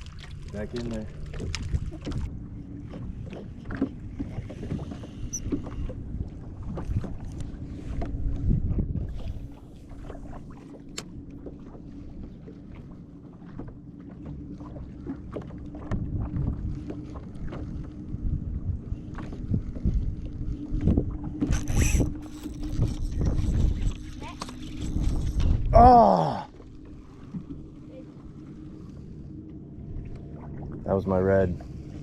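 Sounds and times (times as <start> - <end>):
water sloshing: 0.0 - 32.0.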